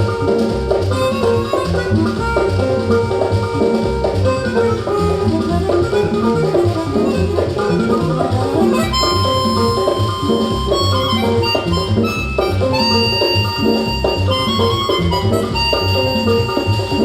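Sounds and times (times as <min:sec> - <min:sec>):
high held notes: 0:00.0 - 0:17.0.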